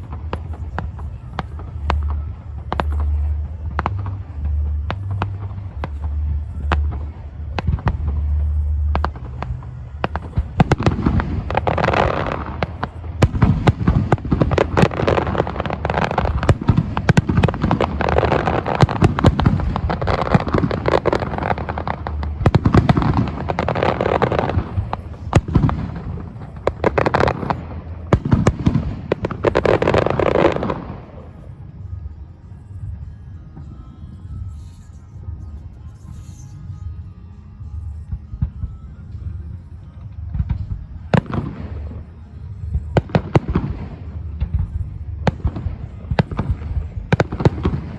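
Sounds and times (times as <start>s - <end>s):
fireworks bangs: 0.0s - 31.6s, 38.4s - 47.9s
fireworks crackling: 0.0s - 32.0s, 38.2s - 47.9s.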